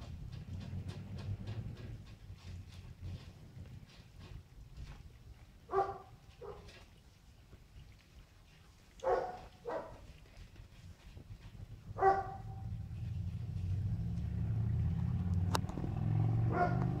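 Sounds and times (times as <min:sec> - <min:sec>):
low steady rumble: 0:00.0 - 0:06.8, 0:09.1 - 0:17.0.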